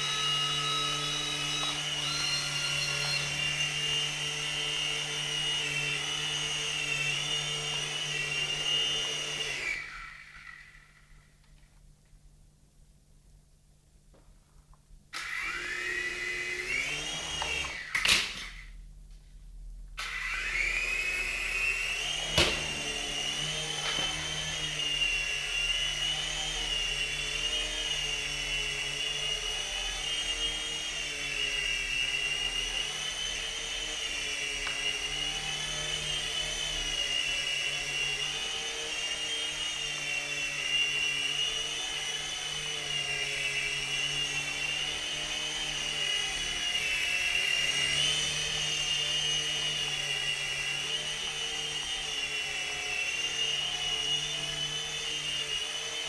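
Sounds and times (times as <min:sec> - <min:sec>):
electric motors whining: 0:00.0 - 0:11.3, 0:15.2 - 0:18.6, 0:20.0 - 0:56.0.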